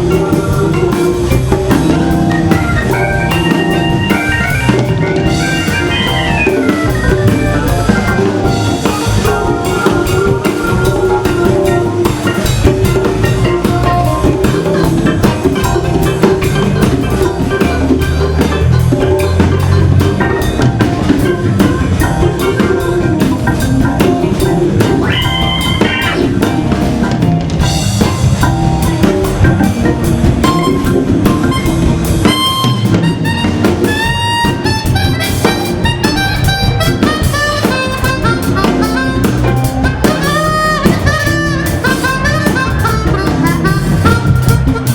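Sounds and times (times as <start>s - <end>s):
drum kit playing: 0.0s - 44.9s
organ chords and runs: 0.0s - 44.9s.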